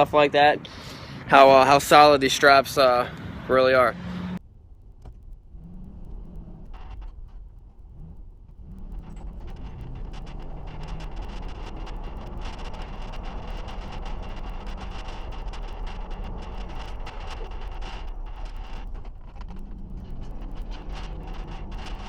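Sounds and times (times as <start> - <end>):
road noise rumble: 0.0 - 22.0.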